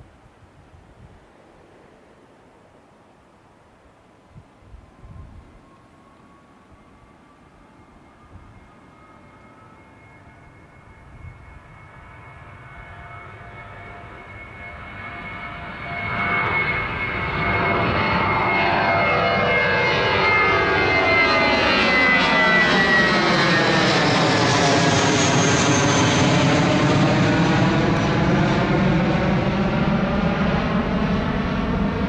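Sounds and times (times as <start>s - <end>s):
jet engines roaring: 5.3s - 32.0s.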